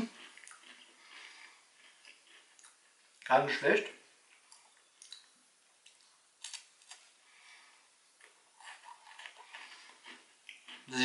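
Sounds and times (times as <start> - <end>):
person chewing crunchy cracker: 0.0 - 3.3, 4.3 - 7.2, 8.2 - 11.0.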